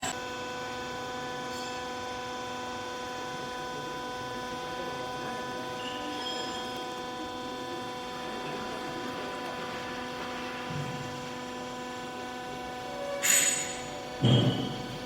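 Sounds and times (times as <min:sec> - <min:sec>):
hydraulic press humming and whining: 0:00.0 - 0:15.0.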